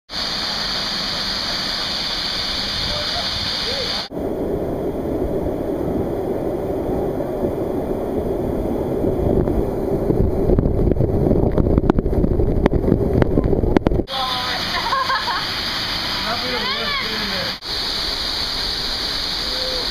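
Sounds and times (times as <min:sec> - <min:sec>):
water hitting microphone: 0:00.1 - 0:19.9
waterfall rumbling: 0:00.1 - 0:19.9.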